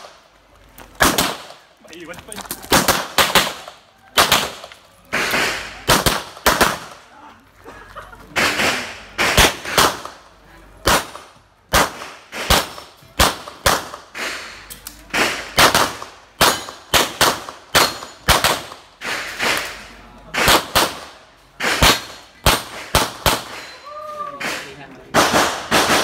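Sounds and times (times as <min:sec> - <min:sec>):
gunshots: 0:01.0 - 0:01.6, 0:02.6 - 0:07.1, 0:08.4 - 0:10.2, 0:10.8 - 0:23.7, 0:24.4 - 0:26.0.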